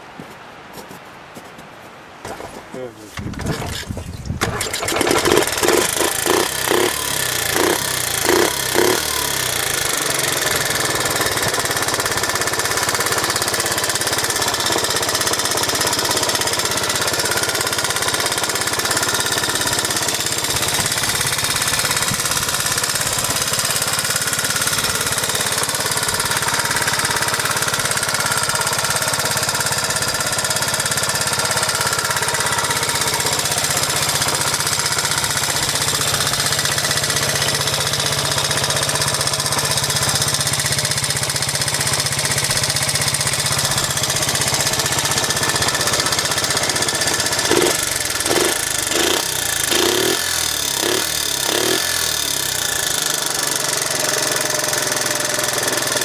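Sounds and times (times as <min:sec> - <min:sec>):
small motorcycle engine idling: 0:03.3 - 0:56.0.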